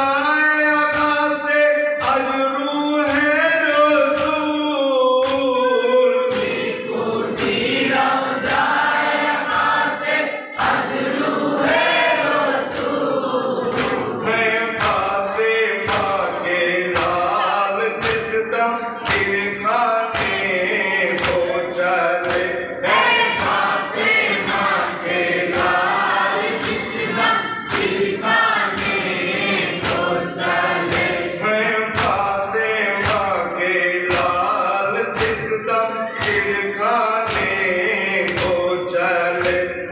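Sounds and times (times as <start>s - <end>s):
men chanting a lament: 0.0s - 39.9s
rhythmic chest-beating: 0.0s - 39.9s.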